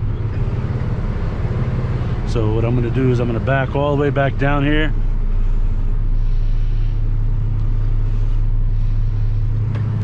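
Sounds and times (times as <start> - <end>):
truck engine humming: 0.0 - 10.0.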